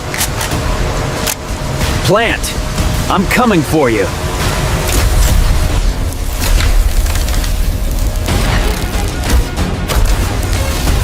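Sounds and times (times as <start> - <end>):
deep rumbling: 0.6 - 11.0.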